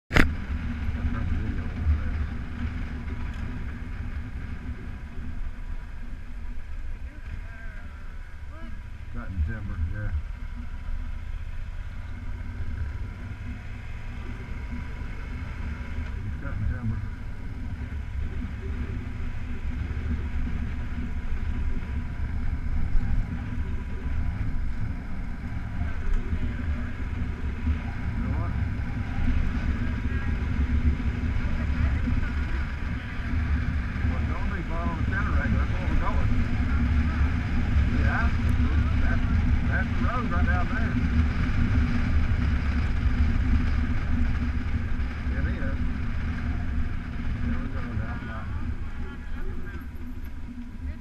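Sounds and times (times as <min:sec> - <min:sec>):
motorcycle rumbling on dirt road: 0:00.0 - 0:51.0.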